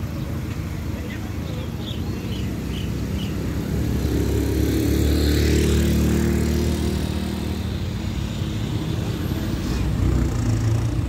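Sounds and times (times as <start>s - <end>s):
vehicle engine passing: 1.6s - 11.0s.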